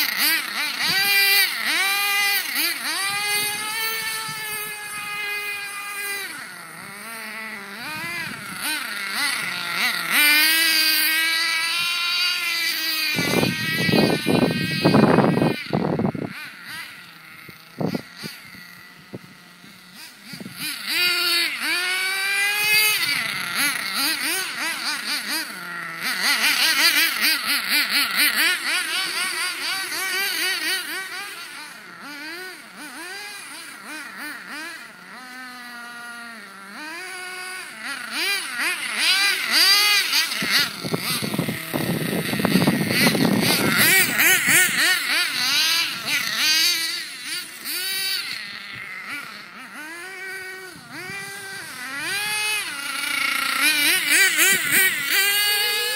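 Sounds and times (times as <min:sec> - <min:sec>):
nitro engine revving: 0:00.0 - 0:55.9.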